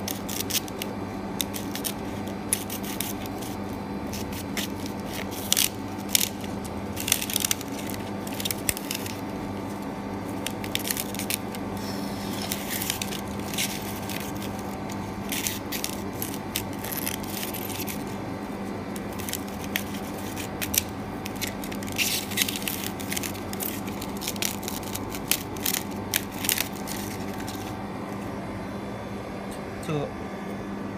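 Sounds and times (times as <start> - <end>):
machine humming: 0.0 - 30.9.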